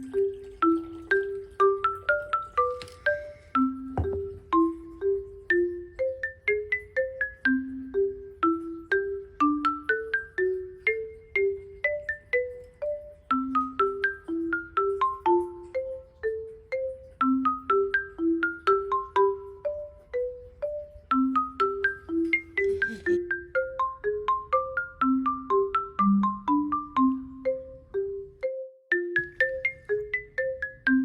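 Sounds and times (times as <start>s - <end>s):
marimba-like melody: 0.0s - 31.0s.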